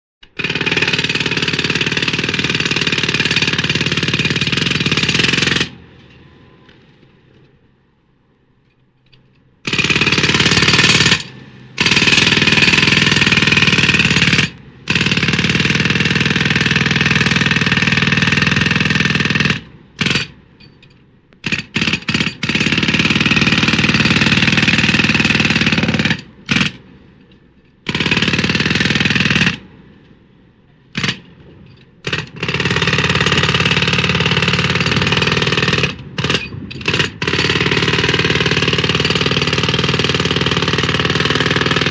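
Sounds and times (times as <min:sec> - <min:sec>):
pneumatic jackhammer hammering: 0:00.2 - 0:06.8, 0:09.1 - 0:29.9, 0:30.9 - 0:41.9.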